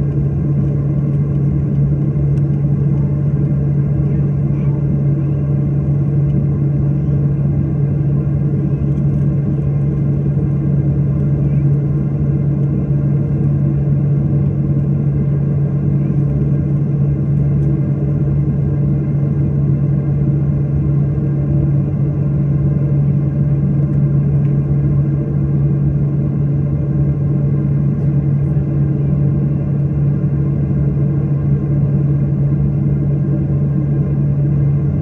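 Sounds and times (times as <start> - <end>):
airliner engines droning: 0.0 - 35.0.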